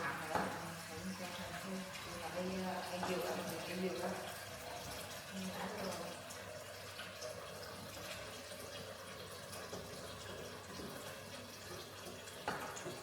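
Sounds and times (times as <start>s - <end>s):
small clicks and drips: 0.0s - 13.0s
water running and splashing: 0.0s - 13.0s.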